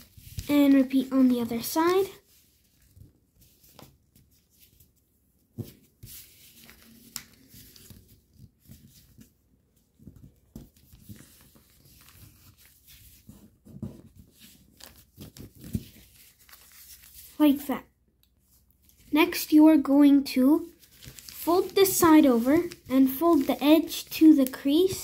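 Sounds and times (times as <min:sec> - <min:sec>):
paper crinkles and taps: 0:00.0 - 0:04.9, 0:05.5 - 0:17.2, 0:20.8 - 0:25.0
paper rustling and scraping: 0:00.0 - 0:05.0, 0:05.6 - 0:09.4, 0:10.0 - 0:17.5, 0:20.6 - 0:25.0.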